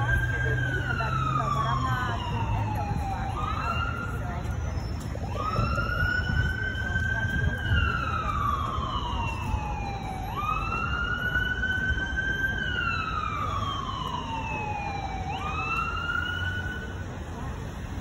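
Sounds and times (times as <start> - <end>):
ambulance siren wailing: 0.0 - 17.3.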